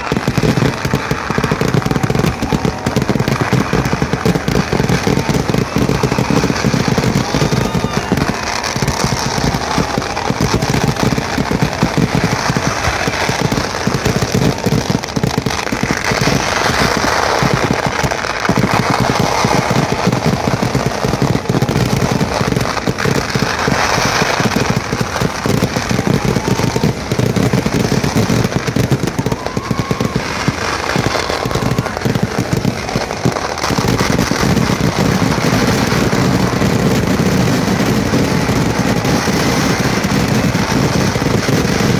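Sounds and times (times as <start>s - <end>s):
firecrackers exploding rapidly: 0.0s - 41.9s.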